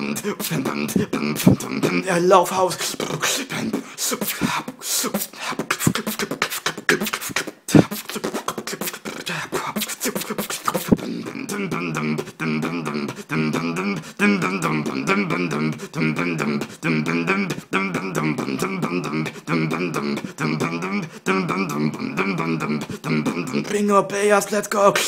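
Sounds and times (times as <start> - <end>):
person beatboxing: 0.0 - 25.0.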